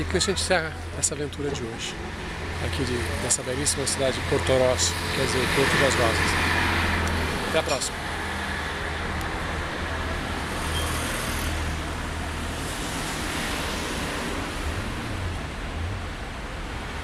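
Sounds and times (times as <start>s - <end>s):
street traffic rumble and hiss: 0.0s - 17.0s.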